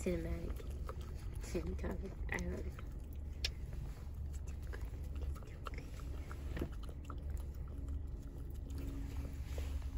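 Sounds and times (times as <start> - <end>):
puppy licking and smacking: 0.0 - 9.8
low rumble in car: 0.0 - 9.9.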